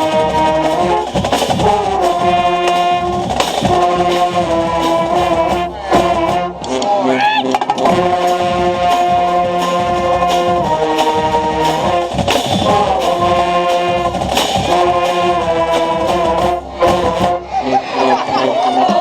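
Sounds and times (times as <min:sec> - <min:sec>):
drum strokes: 0:00.0 - 0:19.0
marching band brass chords: 0:00.0 - 0:19.0.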